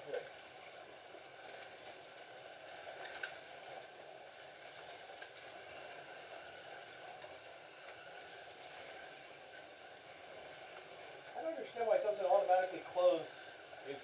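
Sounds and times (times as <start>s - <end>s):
slot cars whirring: 0.0s - 14.0s.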